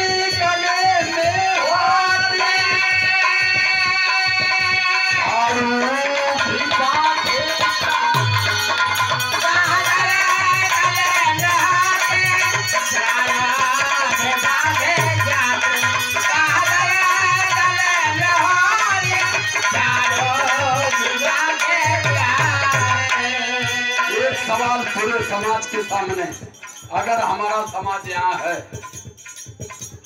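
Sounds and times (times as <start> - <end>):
harmonium melody: 0.0 - 29.1.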